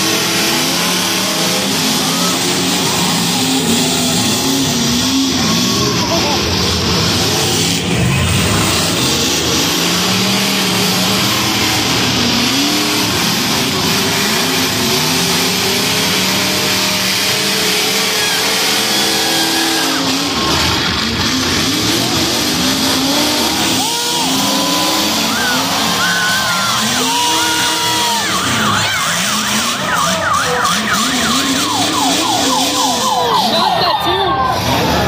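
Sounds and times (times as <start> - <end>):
car engines revving hard: 0.0 - 35.0.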